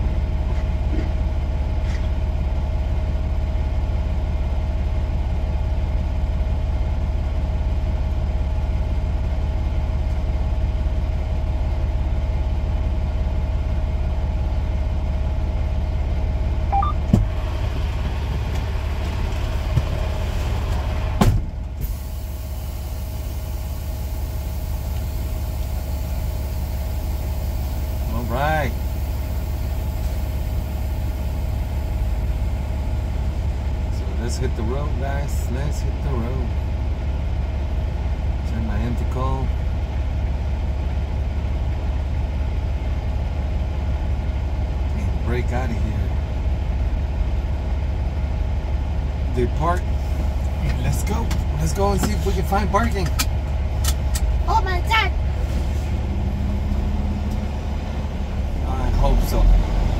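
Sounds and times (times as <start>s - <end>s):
truck diesel engine idling: 0.0s - 59.9s.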